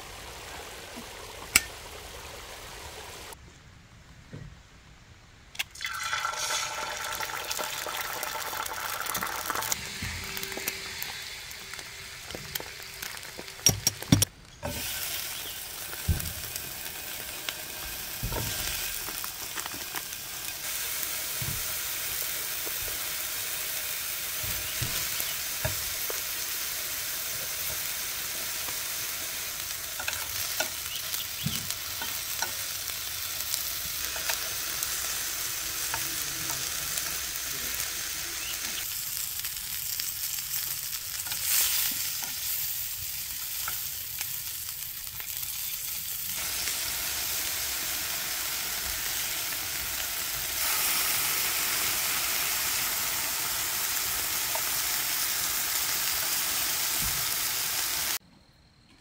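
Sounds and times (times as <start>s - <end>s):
food sizzling in hot oil: 0.0s - 3.4s, 5.8s - 58.2s.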